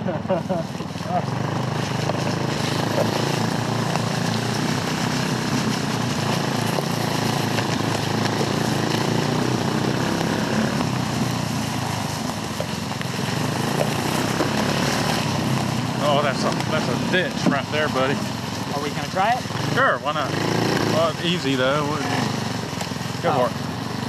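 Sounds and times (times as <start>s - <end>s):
go kart engine running: 0.0s - 24.0s
kart rattling over rough ground: 0.0s - 24.0s.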